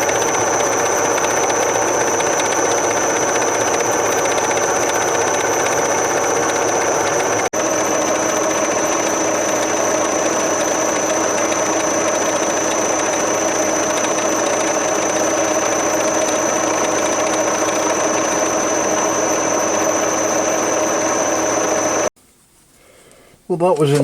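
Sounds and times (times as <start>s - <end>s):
milling machine hum and whine: 0.0s - 22.1s.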